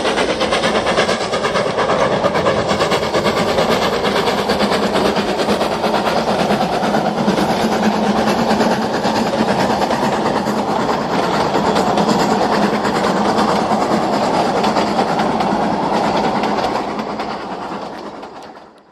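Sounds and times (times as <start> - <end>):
train wheels clattering on rail: 0.0 - 18.9.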